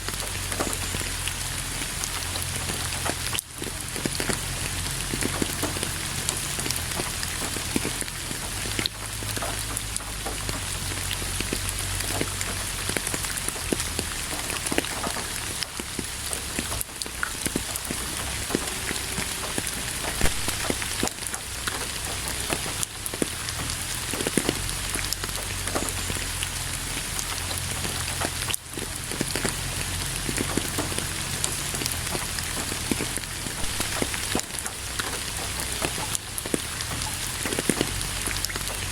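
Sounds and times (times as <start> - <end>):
low rumble: 0.0 - 38.9
rain hissing on a surface: 0.0 - 38.9.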